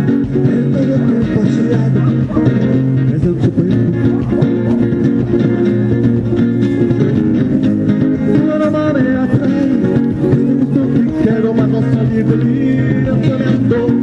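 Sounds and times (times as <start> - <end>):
guitars plucking notes: 0.0 - 14.0
low bass line: 0.0 - 14.0.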